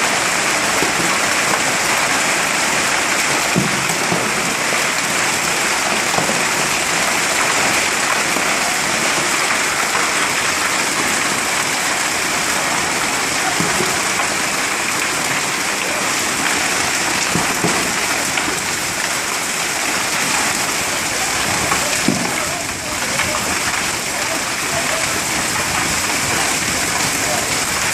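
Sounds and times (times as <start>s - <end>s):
heavy hail and rain pelting: 0.0s - 27.9s.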